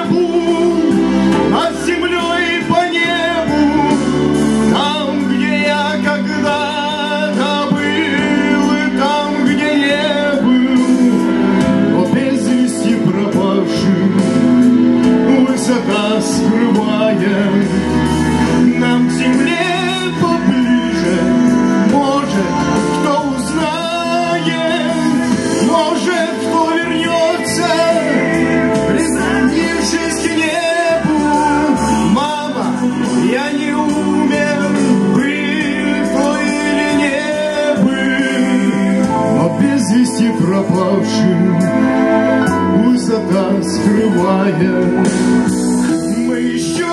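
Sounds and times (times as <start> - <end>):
man singing into microphone: 0.0 - 46.9.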